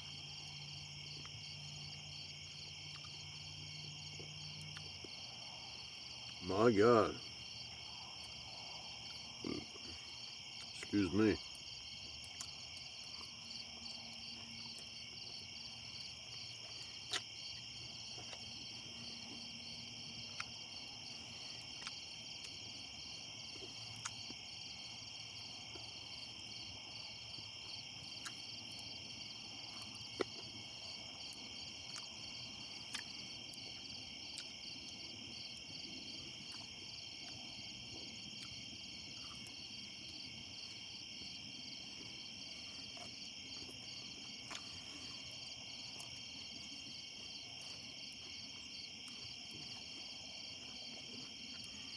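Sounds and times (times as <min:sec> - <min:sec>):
crickets and insects chirping: 0:00.0 - 0:51.9.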